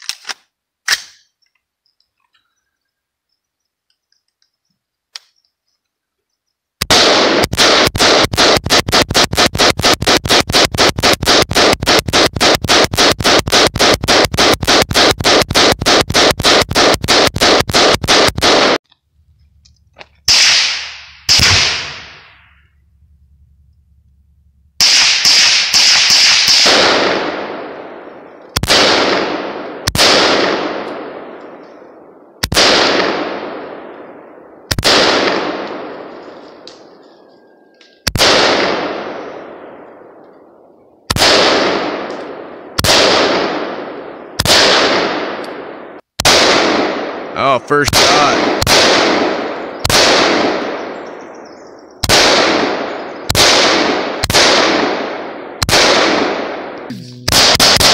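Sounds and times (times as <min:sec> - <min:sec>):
rifle shots with echo: 0:06.8 - 0:18.8, 0:19.4 - 0:23.6, 0:24.8 - 0:57.9.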